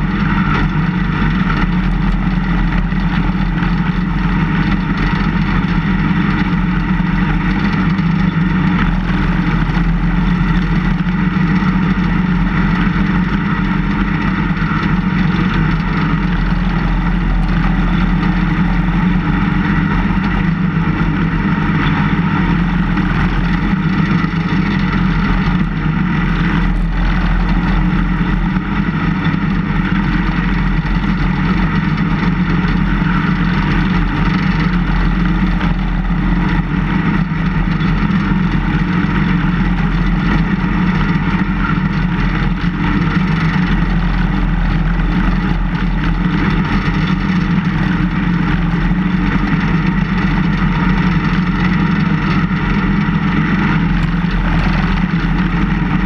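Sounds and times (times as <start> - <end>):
plow blade pushing snow: 0.0 - 56.0
snowplow engine running: 0.0 - 56.0.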